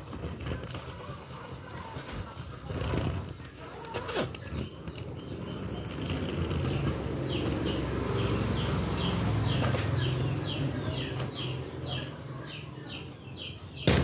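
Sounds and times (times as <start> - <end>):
chicks peeping: 0.1 - 14.0.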